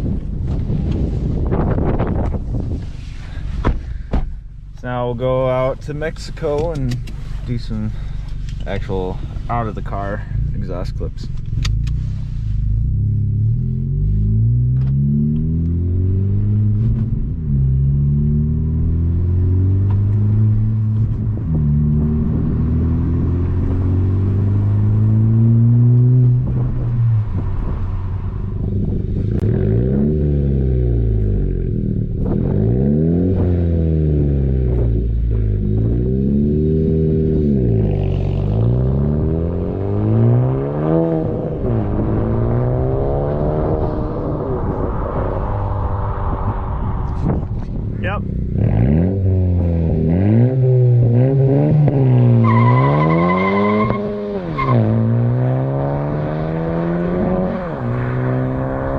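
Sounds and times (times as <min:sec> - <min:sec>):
car engine revving: 0:04.8 - 0:58.9.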